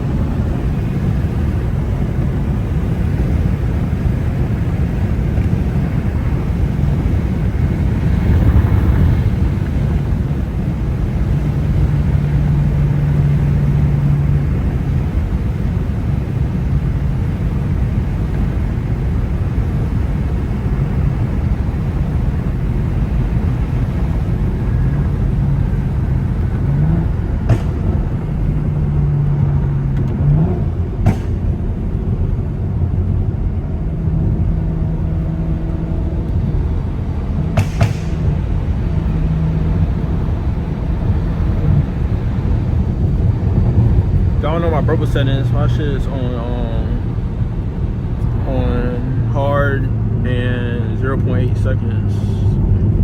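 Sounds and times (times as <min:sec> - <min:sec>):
car engine rumbling: 0:00.0 - 0:53.0.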